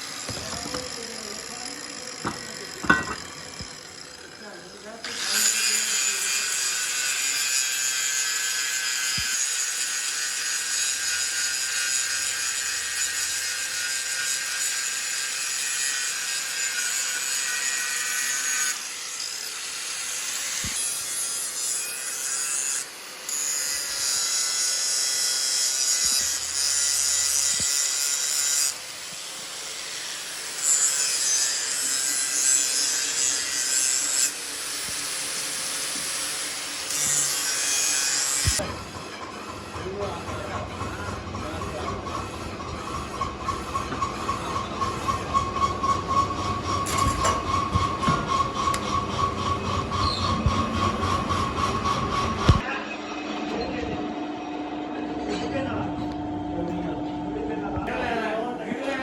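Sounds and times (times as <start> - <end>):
machine tool cutting metal: 0.0 - 52.7.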